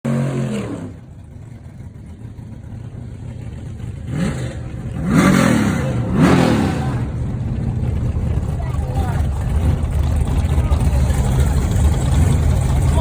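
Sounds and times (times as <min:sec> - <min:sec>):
engine idling and revving: 0:00.0 - 0:13.0.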